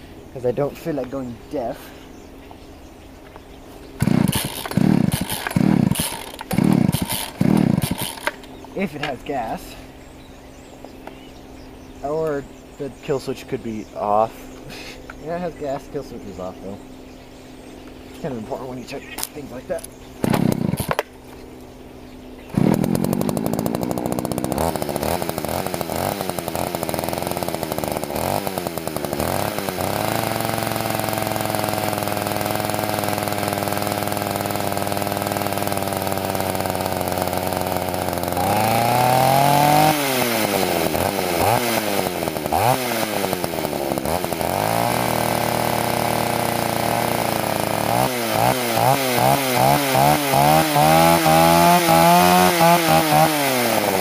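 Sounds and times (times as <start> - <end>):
chainsaw engine running: 0.0 - 54.0.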